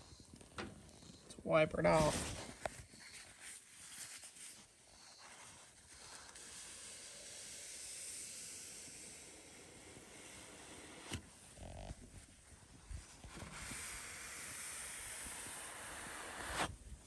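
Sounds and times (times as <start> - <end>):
paper towel rubbing hiss: 2.0 - 16.7.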